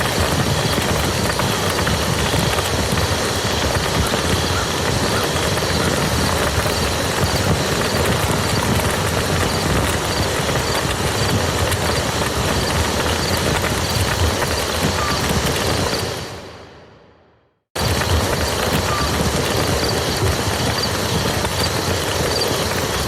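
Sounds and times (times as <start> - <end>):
rain falling on a muddy field: 0.0 - 16.2, 17.8 - 23.0.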